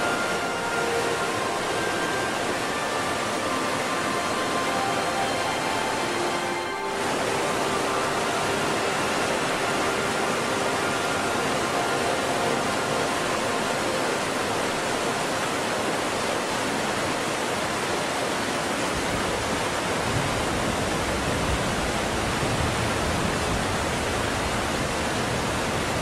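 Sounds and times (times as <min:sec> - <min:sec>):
waterfall roar: 0:00.0 - 0:26.0.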